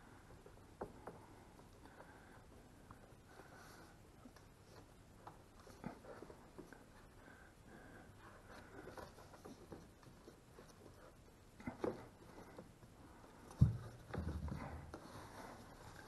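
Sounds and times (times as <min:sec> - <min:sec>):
faint plastic rustling: 0:00.0 - 0:16.0.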